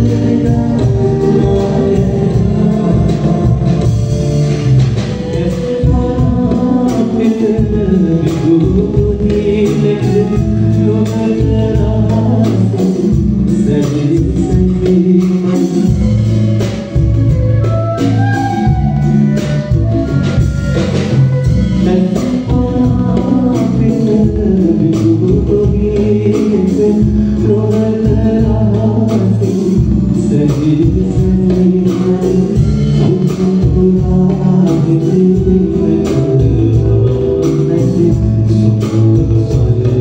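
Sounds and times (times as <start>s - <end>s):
man singing into a microphone: 0.0s - 4.4s, 5.0s - 40.0s
band playing: 0.0s - 40.0s
drums: 0.0s - 40.0s.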